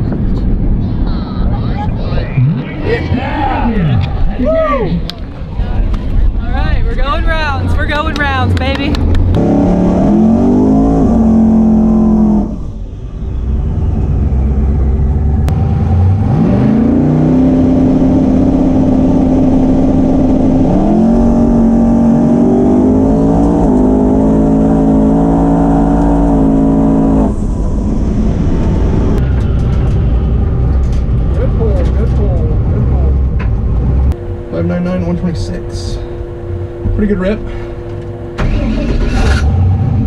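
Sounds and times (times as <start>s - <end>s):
race car engine revving: 7.0s - 40.0s.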